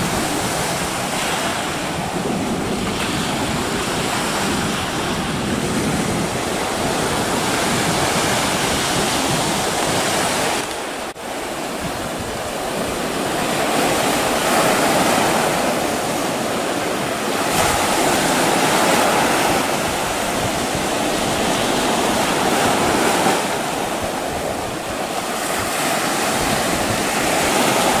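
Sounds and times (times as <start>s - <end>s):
surf breaking over rocks: 0.0s - 28.0s.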